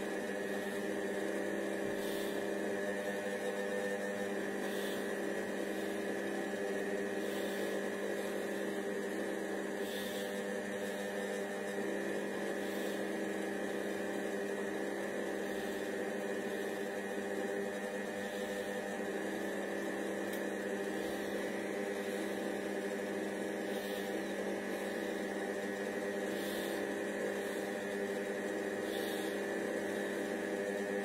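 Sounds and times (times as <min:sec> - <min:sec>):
kitchen robot humming: 0:00.0 - 0:31.0.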